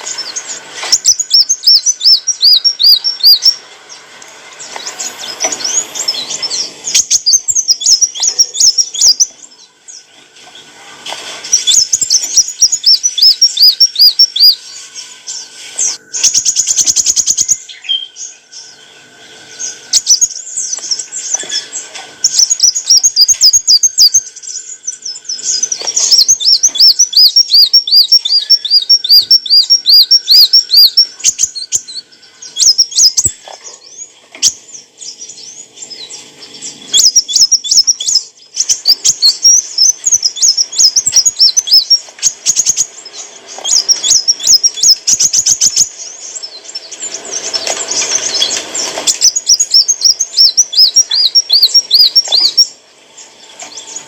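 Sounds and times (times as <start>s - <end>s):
sunbird chirping: 0.0s - 54.0s.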